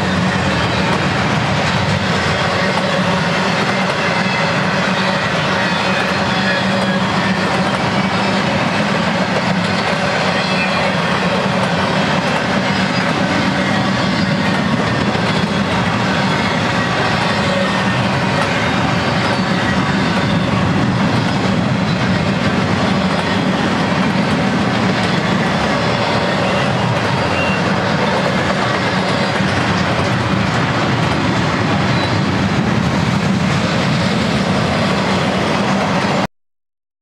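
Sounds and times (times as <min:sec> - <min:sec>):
freight train rolling past: 0:00.0 - 0:36.3.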